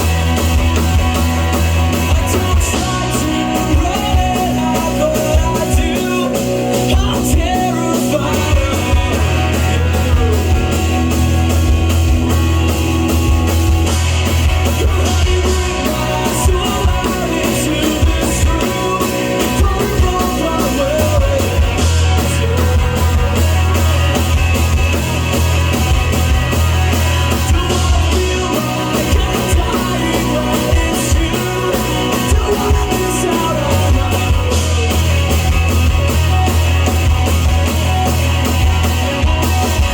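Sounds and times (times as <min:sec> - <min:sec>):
lead vocal singing: 0:00.0 - 0:11.7, 0:14.2 - 0:35.4
bass guitar: 0:00.0 - 0:39.9
distorted electric guitars: 0:00.0 - 0:39.9
fast drum beat: 0:00.0 - 0:39.9.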